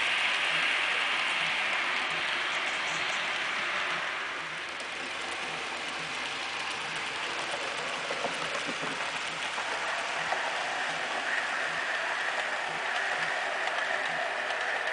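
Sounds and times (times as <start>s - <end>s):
model train rattling on track: 0.0s - 14.9s
wheels clicking: 0.0s - 14.9s.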